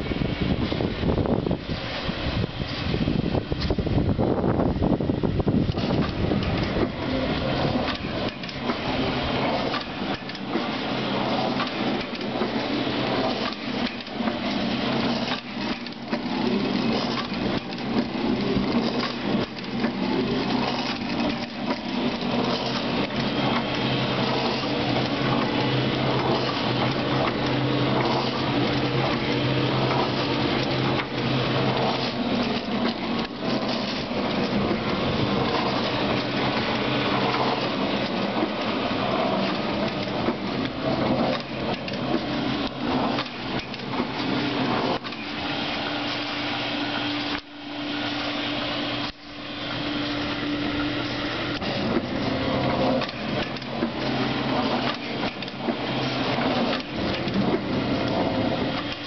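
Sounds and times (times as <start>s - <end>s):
electric motor hum: 0.0s - 59.0s
mechanical clatter and knocking: 2.6s - 49.3s, 50.0s - 59.0s.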